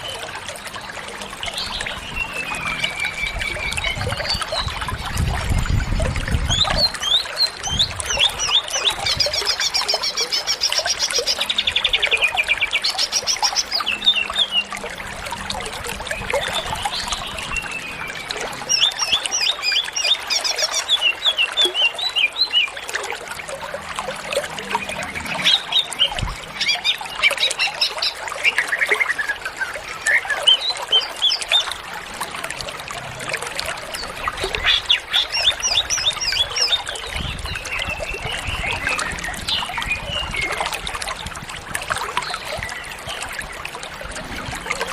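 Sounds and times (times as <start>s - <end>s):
bird singing trills and chirps: 0.0s - 14.9s, 15.5s - 22.8s, 24.6s - 31.8s, 34.0s - 41.2s.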